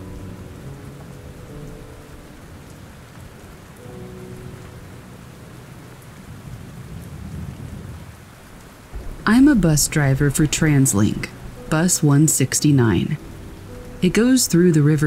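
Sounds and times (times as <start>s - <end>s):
low rolling thunder: 0.0s - 15.0s
steady rain falling: 0.0s - 15.0s.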